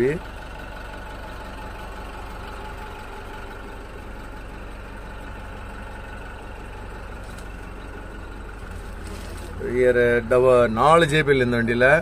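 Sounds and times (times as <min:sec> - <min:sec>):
minibus engine idling: 0:00.0 - 0:12.0.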